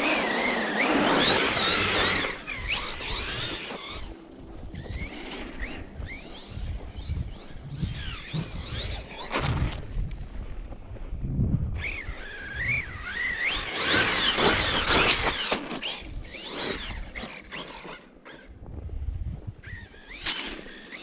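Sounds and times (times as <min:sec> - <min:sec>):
electric motor whining: 0:00.0 - 0:10.1, 0:11.8 - 0:18.6, 0:19.5 - 0:21.0.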